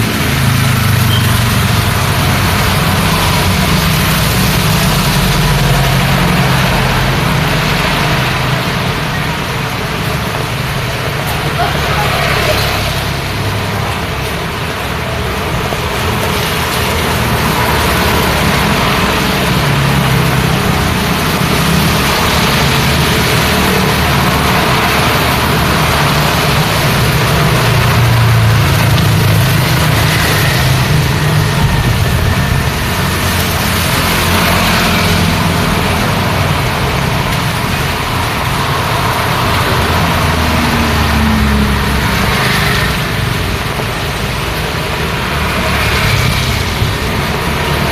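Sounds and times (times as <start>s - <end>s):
rain hissing on wet road: 0.0s - 47.9s
rumble of vehicle engines: 0.0s - 47.9s.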